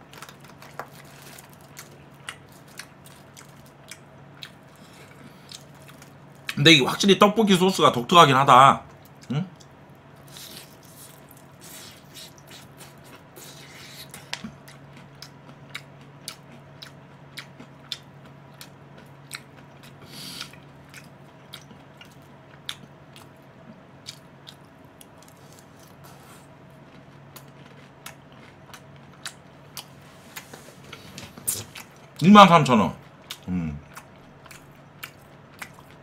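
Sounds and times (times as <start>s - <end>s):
person chewing crispy chicken: 0.0s - 6.6s, 8.9s - 32.2s, 33.0s - 36.0s
faint low hum: 0.0s - 36.0s.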